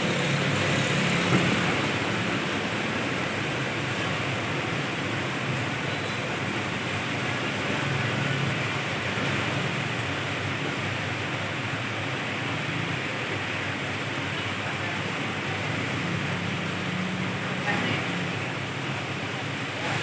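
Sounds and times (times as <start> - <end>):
steady rain hissing: 0.0 - 20.0
traffic on wet road: 0.0 - 20.0.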